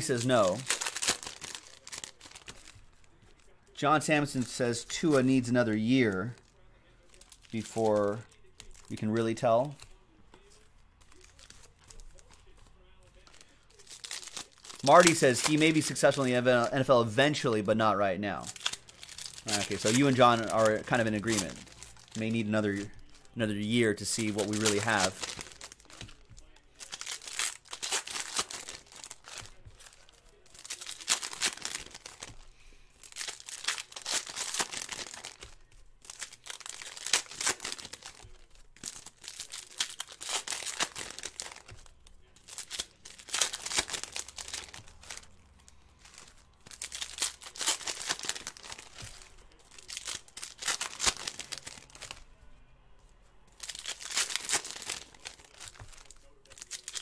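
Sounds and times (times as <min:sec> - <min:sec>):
plastic wrappers tearing: 0:00.0 - 0:17.6, 0:18.3 - 0:52.4, 0:53.4 - 0:57.0.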